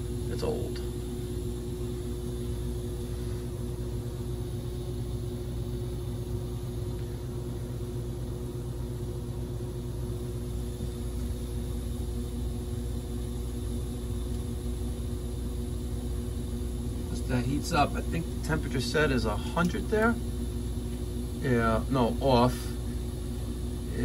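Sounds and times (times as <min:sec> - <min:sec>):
gas furnace running: 0:00.0 - 0:24.0.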